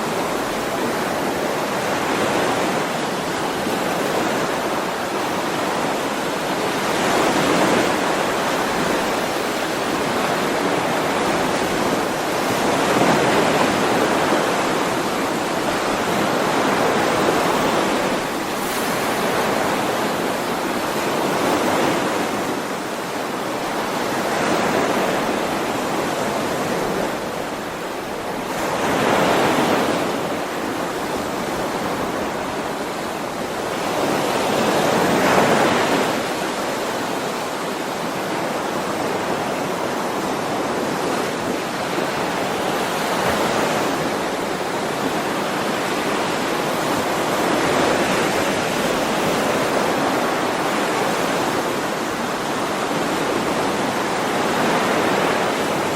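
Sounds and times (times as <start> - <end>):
ocean waves washing ashore: 0.0 - 55.9.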